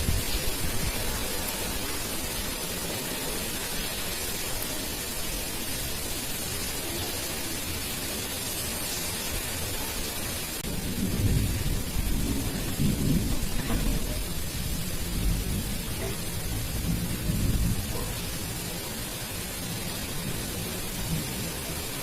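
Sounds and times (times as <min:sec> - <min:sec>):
thunder rumbling: 0:00.0 - 0:07.1, 0:10.6 - 0:22.0
heavy rain: 0:00.0 - 0:22.0.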